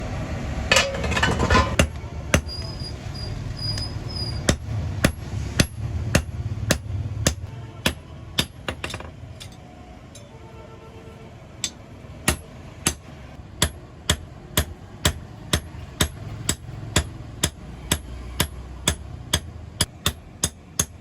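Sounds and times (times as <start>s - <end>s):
hammer striking metal: 0.7s - 2.7s, 3.8s - 10.3s, 11.6s - 21.0s.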